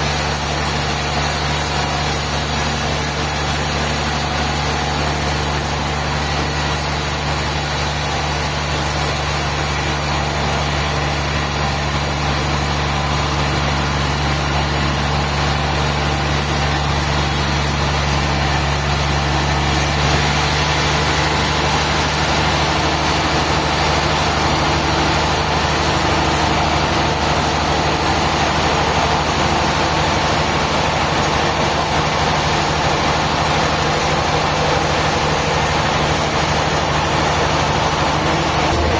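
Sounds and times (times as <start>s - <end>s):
heavy machinery engine drone: 0.0s - 38.9s.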